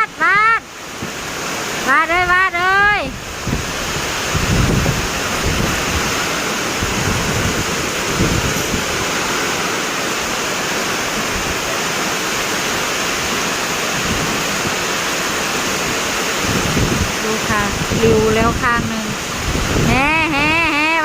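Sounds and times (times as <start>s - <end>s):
heavy rain pouring: 0.0s - 21.0s
wind buffeting microphone: 2.1s - 11.8s, 13.1s - 21.0s.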